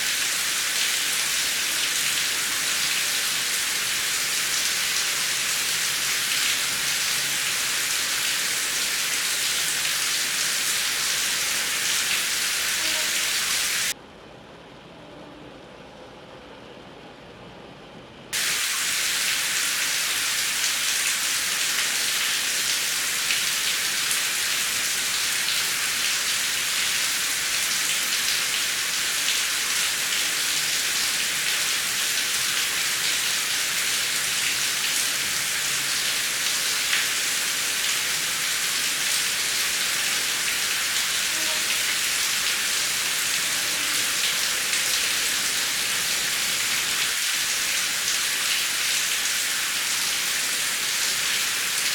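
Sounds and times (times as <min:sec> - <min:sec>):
heavy rain: 0:00.0 - 0:14.0, 0:18.4 - 0:51.9.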